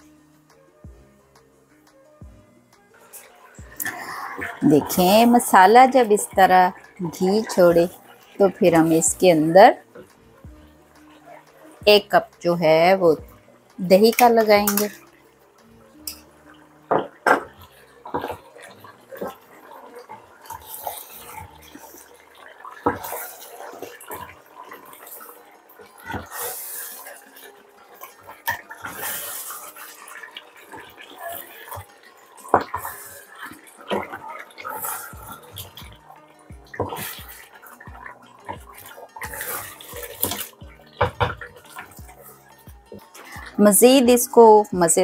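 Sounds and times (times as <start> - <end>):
wet squelching stirring: 0.0 - 45.0.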